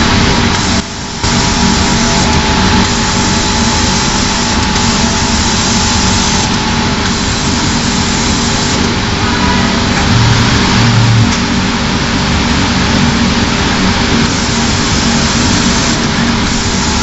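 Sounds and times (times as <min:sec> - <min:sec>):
strong low hum: 0:00.0 - 0:16.8
machinery running: 0:00.0 - 0:17.0.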